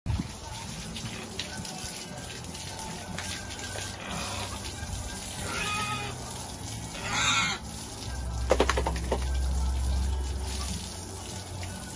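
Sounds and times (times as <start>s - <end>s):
background music: 0.1s - 11.9s
hose water spraying and splashing: 0.1s - 11.9s.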